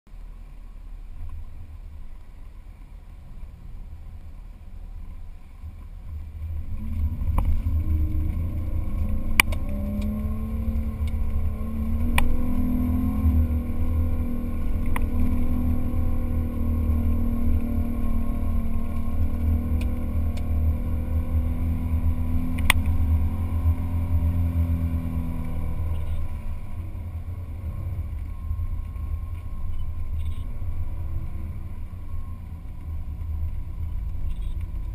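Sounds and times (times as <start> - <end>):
off-road vehicle engine straining: 0.1 - 34.9.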